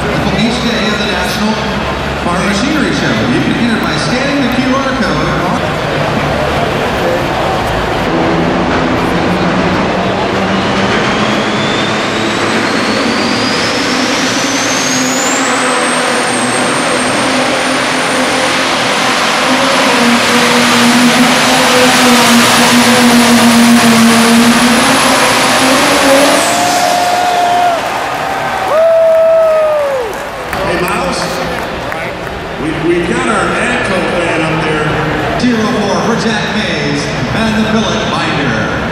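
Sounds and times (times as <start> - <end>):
diesel engine at full throttle: 0.0 - 38.9.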